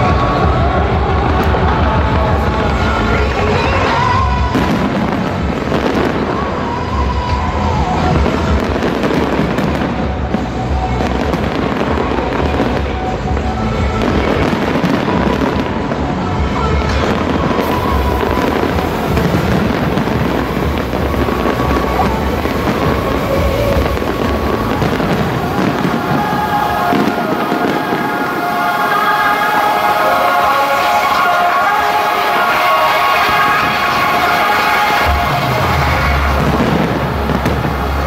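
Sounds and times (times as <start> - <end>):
fireworks bangs and crackles: 0.0 - 38.0
music playing: 0.0 - 38.0.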